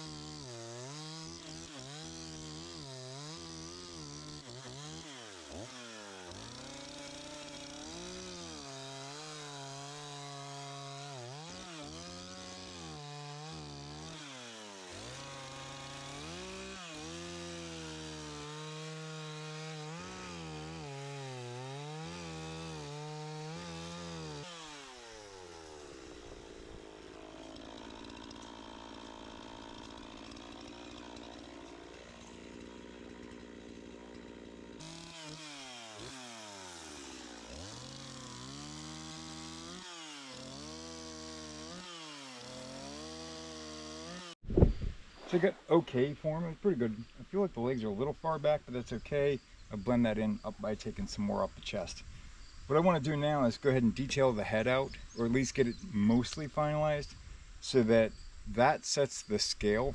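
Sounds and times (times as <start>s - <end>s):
chainsaw cutting wood: 0.0s - 58.6s.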